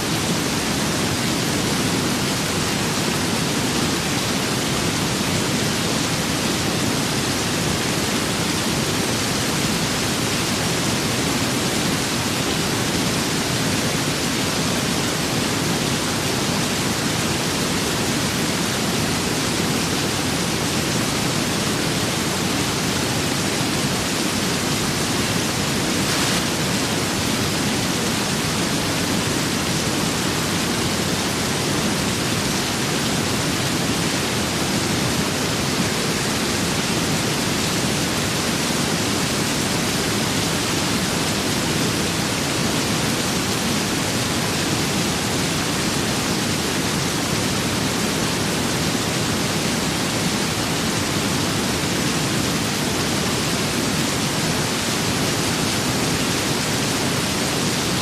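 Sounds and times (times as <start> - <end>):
steady rain with wind: 0.0 - 58.0.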